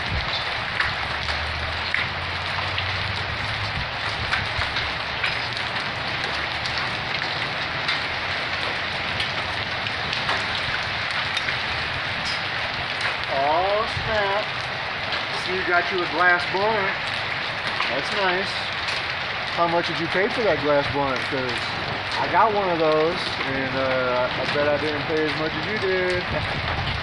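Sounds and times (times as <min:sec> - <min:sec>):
hail falling: 0:00.0 - 0:27.0
hailstones clicking on hard surfaces: 0:00.0 - 0:27.0.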